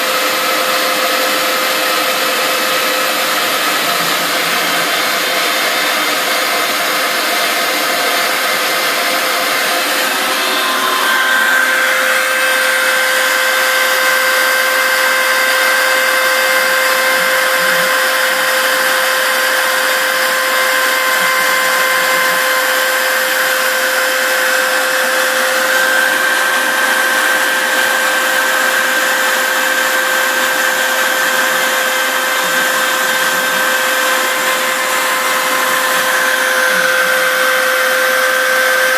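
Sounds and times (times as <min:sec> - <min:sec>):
router spindle running: 0:00.0 - 0:38.9
shop vac: 0:00.0 - 0:38.9
high whine: 0:01.5 - 0:38.9.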